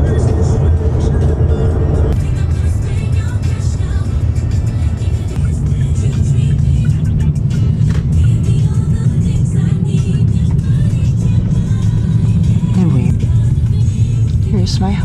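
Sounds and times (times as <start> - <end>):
background music: 0.0 - 15.0
vehicle road rumble: 0.0 - 15.0.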